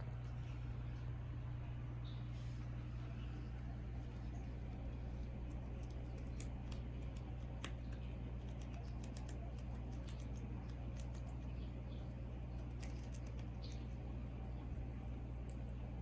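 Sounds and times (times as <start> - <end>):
guinea pigs munching: 0.0 - 16.0
low electrical hum: 0.0 - 16.0.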